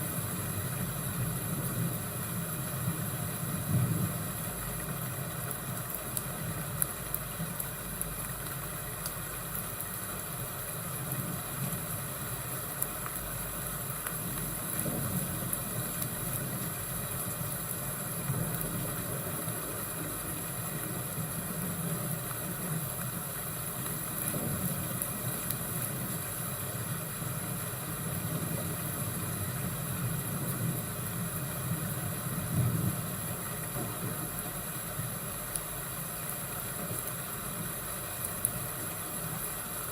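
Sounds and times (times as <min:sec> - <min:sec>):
constant hiss: 0:00.0 - 0:39.9
fire crackles: 0:00.0 - 0:39.9.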